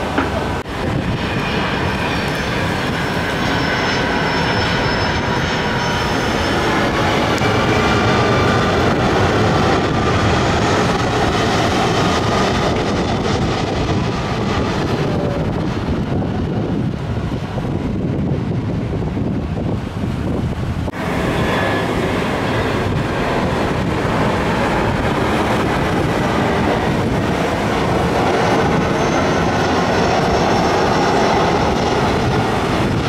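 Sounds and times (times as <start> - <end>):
jet engines droning overhead: 0.0 - 33.0.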